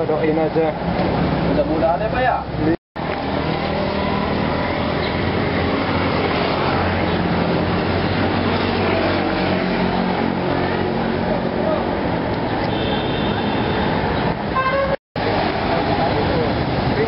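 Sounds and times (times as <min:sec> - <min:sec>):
vehicle engines passing: 0:00.0 - 0:14.6, 0:15.2 - 0:17.0.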